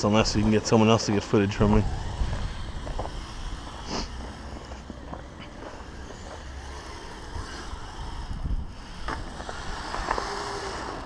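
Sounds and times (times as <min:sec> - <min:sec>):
toy tracked vehicle clattering: 0:00.0 - 0:11.0.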